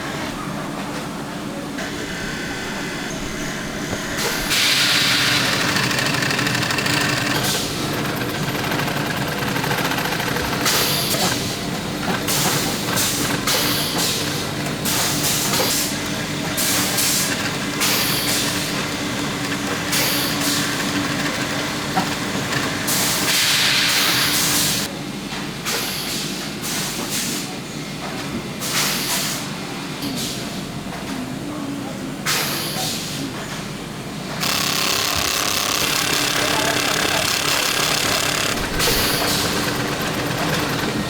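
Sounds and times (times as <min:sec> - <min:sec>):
workshop machinery humming: 0:00.0 - 0:41.0.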